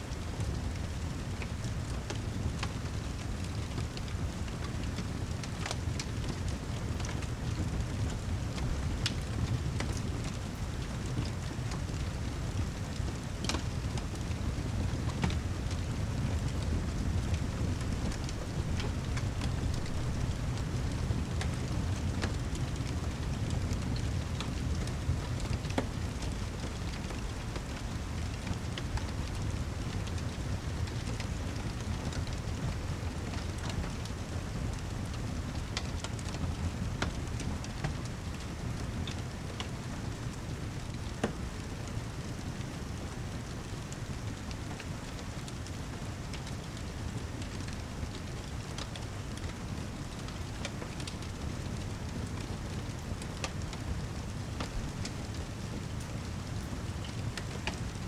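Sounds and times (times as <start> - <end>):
heavy rain: 0.0 - 58.0
fireplace crackling: 0.1 - 57.9.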